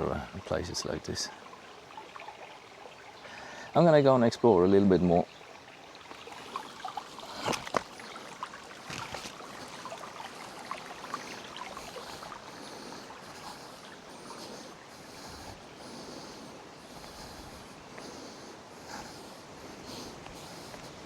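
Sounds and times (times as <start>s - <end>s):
creek water trickling over stones: 0.0s - 21.0s.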